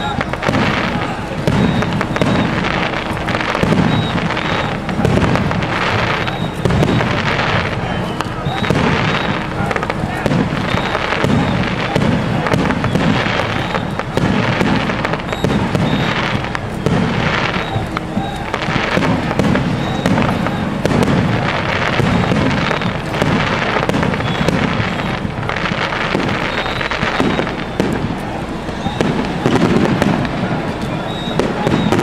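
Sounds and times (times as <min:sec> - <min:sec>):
fireworks banging and crackling: 0:00.0 - 0:32.0.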